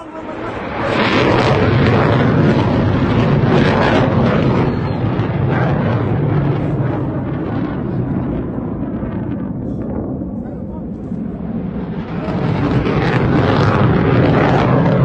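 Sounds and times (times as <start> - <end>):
rocket motor roaring: 0.0 - 15.0.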